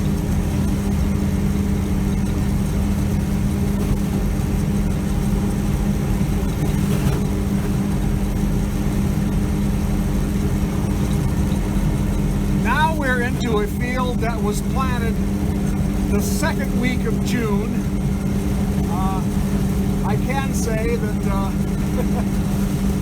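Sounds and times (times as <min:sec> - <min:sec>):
combine engine droning: 0:00.0 - 0:23.0.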